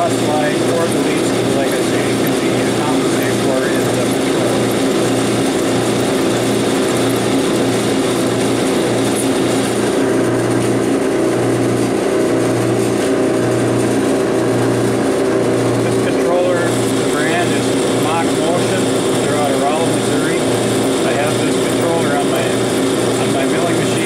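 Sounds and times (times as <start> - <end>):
lathe motors running: 0.0 - 24.0
low pulsing hum: 0.0 - 24.0.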